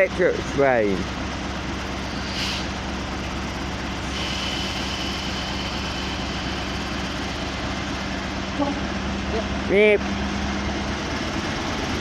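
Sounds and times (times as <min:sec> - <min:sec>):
diesel locomotive engine humming: 0:00.0 - 0:12.0.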